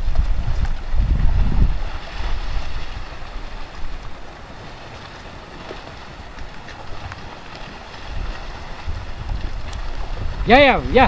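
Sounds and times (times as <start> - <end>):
wind buffeting microphone: 0.0 - 4.8, 6.0 - 11.0.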